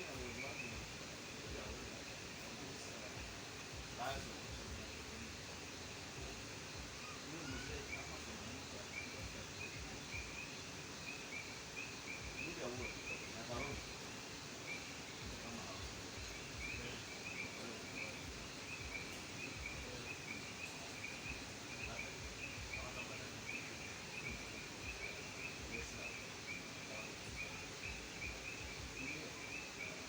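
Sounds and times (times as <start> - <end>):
background hiss: 0.0 - 30.0
frogs calling in chorus: 0.0 - 30.0.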